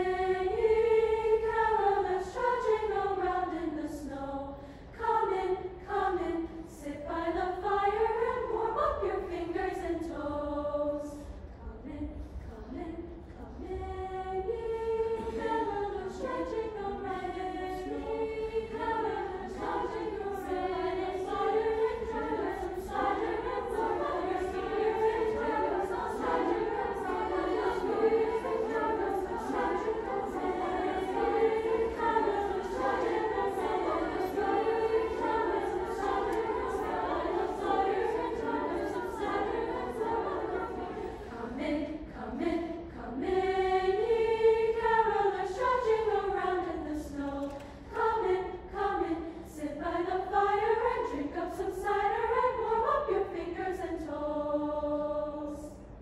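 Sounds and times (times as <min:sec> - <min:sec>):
treble choir singing: 0:00.0 - 0:56.0.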